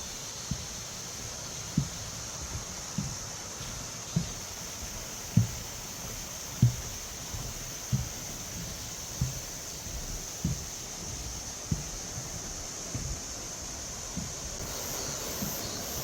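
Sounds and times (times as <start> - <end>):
footsteps on a path: 0.0 - 16.0
steady high hiss: 0.0 - 16.0.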